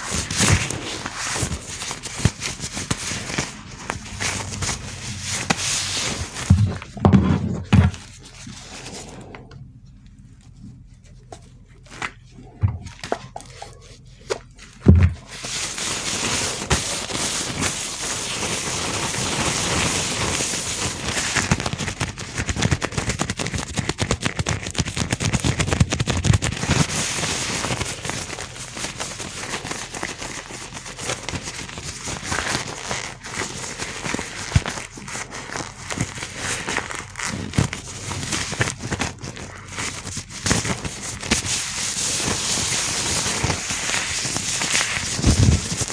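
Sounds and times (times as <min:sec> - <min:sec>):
gloved hands rubbing and crinkling: 0:00.0 - 0:45.9.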